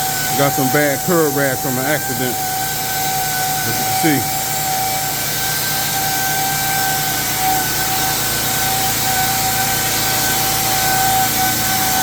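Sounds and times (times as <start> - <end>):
power tool motor whining: 0.0 - 12.0.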